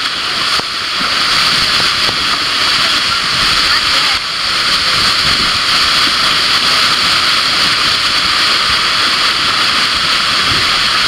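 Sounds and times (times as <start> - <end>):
water rushing from wave machine: 0.0 - 11.0.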